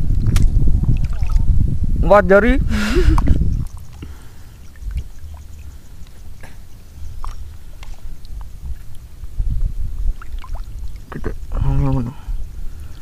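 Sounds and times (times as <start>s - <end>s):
water sloshing around wader: 0.0s - 1.6s, 3.0s - 13.0s.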